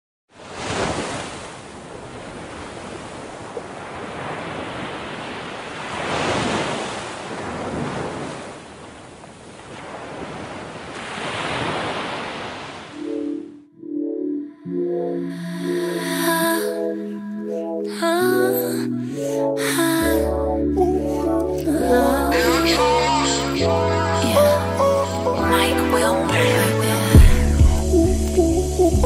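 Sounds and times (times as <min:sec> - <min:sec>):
sea waves and surf: 0:00.3 - 0:29.0.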